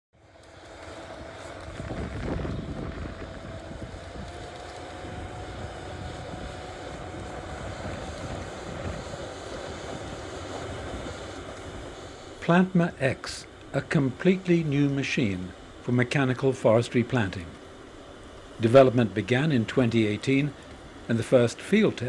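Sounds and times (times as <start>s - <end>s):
engine rumble: 0.2s - 22.0s
machine whine: 0.2s - 22.0s.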